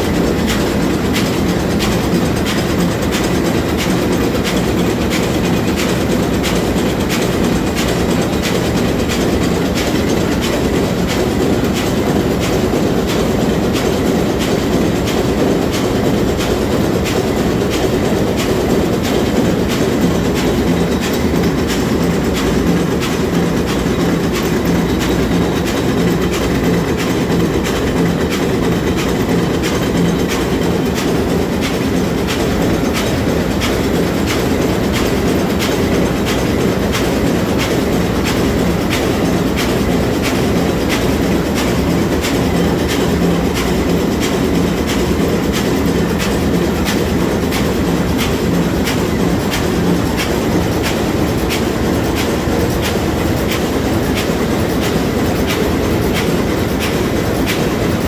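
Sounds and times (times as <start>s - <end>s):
marine diesel engine running: 0.0s - 58.0s.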